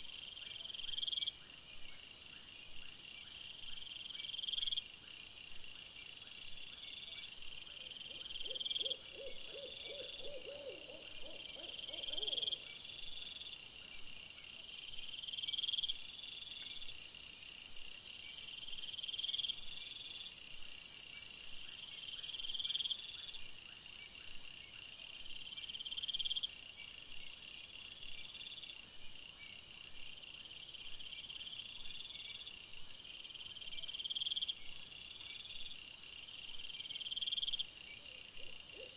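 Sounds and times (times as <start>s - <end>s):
low pulsing insect call: 0.0s - 38.9s.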